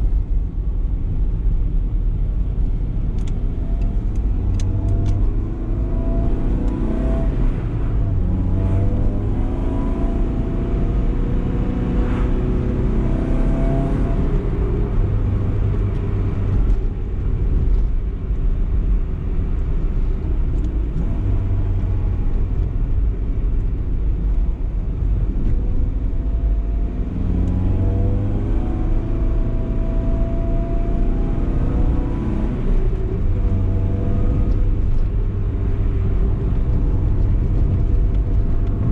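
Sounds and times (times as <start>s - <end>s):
road rumble: 0.0s - 38.9s
car engine accelerating through gears: 2.4s - 38.9s.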